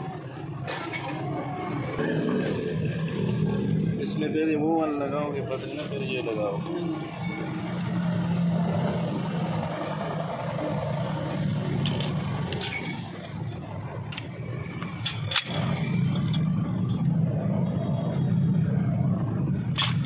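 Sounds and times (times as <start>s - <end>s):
low hum of vehicle engines: 0.0s - 20.0s.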